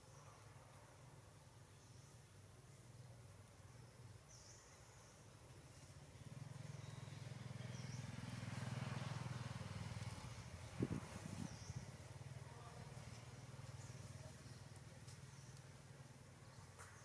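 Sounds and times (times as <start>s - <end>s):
faint vehicle engine rumble: 1.8s - 17.0s.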